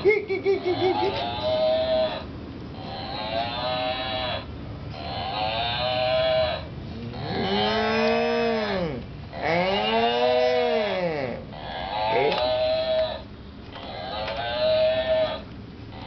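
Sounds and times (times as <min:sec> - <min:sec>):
toy cow mooing: 0:00.9 - 0:16.0.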